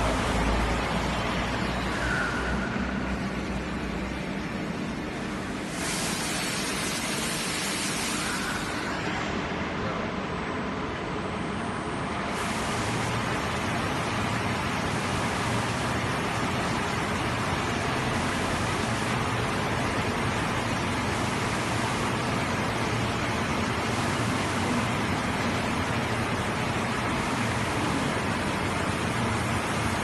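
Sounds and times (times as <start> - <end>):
coolant spray hissing: 0.0 - 9.1, 12.3 - 30.0.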